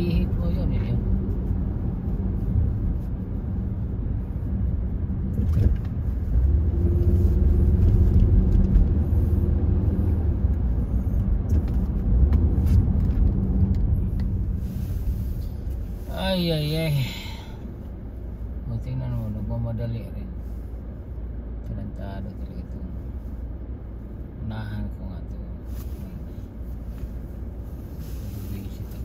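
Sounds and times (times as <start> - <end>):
car engine rumble: 0.0 - 29.0.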